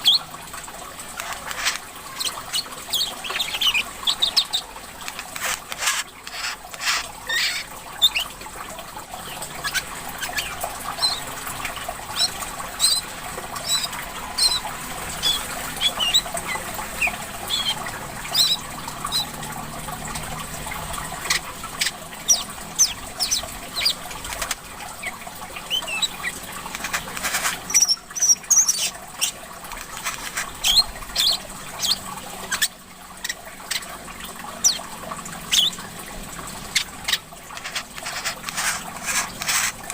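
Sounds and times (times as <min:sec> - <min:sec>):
bird chirping and twittering: 0:00.0 - 0:00.3, 0:01.2 - 0:08.4, 0:09.1 - 0:19.5, 0:21.2 - 0:33.9, 0:34.5 - 0:34.9, 0:35.5 - 0:35.8, 0:36.6 - 0:39.3
water trickling: 0:00.0 - 0:39.9.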